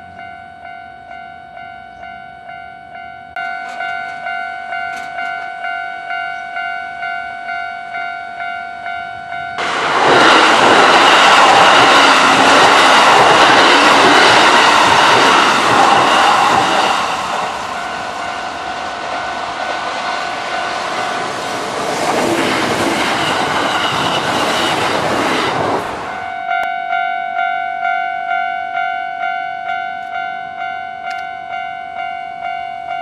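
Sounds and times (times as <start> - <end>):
express train passing at speed: 0.0 - 33.0
level-crossing alarm ringing: 0.0 - 33.0.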